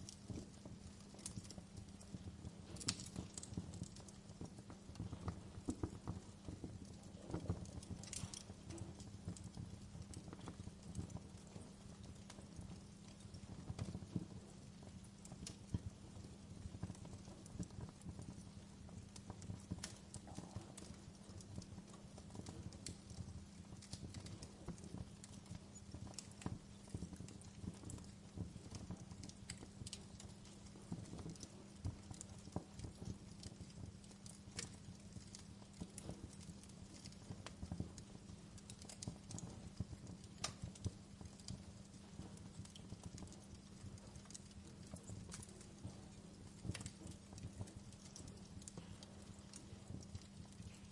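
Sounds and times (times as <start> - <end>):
low rumble of flames: 0.0 - 50.9
wood fire crackling: 0.0 - 50.9.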